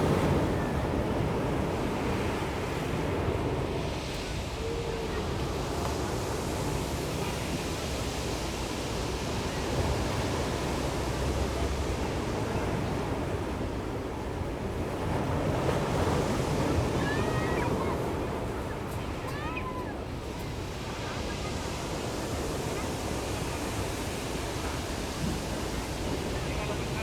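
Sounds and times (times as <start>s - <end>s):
ocean surf breaking on shore: 0.0s - 27.0s.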